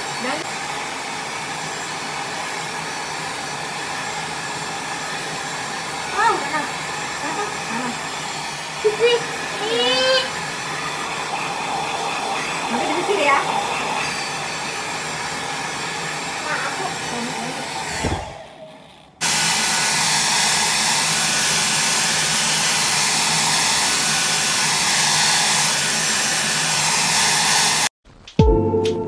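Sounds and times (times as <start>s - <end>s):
hair dryer blowing: 0.0s - 27.9s.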